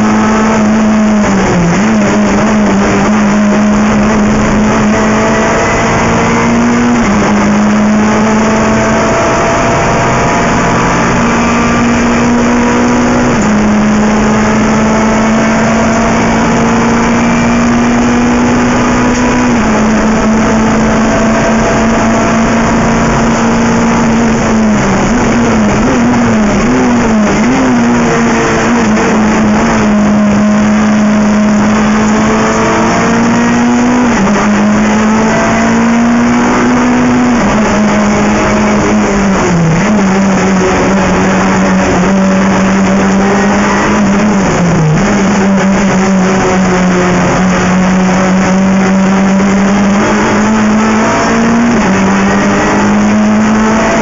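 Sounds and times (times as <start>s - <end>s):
race car engine revving high: 0.0s - 54.0s.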